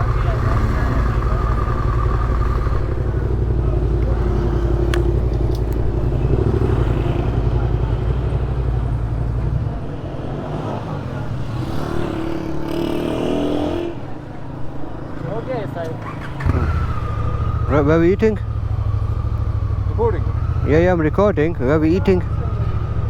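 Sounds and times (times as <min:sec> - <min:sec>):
motorcycle engine idling: 0:00.0 - 0:10.0, 0:14.5 - 0:23.0
street noise: 0:00.0 - 0:23.0.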